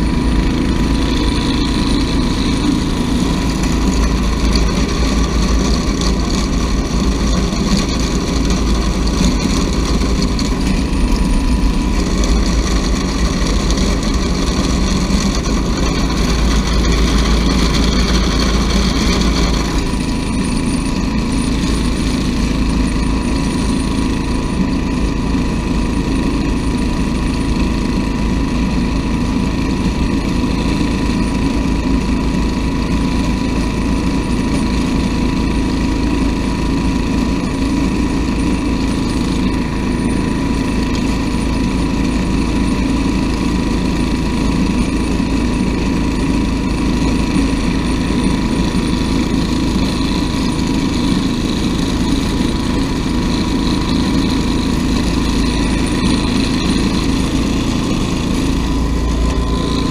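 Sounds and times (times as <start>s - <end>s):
thin steady whine: 0.0s - 59.9s
tractor engine running: 0.0s - 59.9s.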